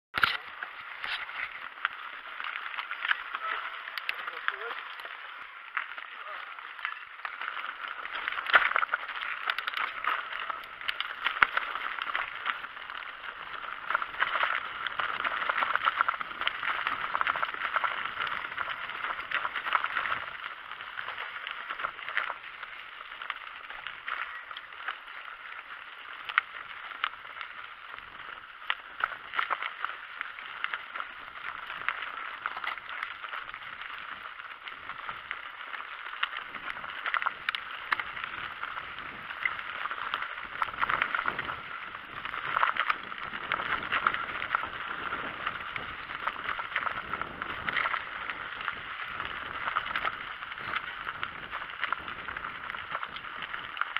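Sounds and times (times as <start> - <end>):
bike rattling over bumps: 0.2 - 53.9.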